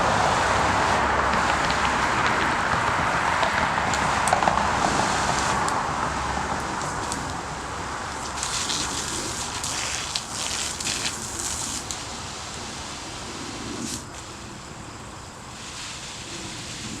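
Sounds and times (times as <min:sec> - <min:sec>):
water spraying from hose: 0:00.0 - 0:17.0.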